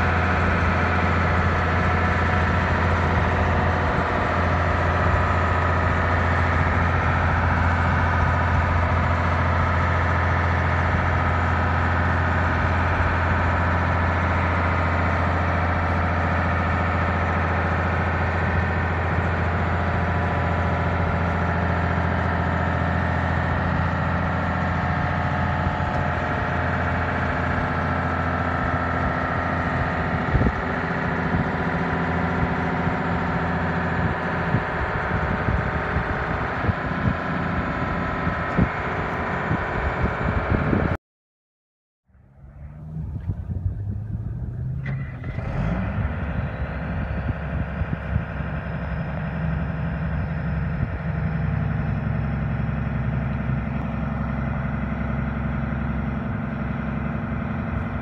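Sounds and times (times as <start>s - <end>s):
diesel engine idling: 0.0s - 41.0s, 42.1s - 58.0s.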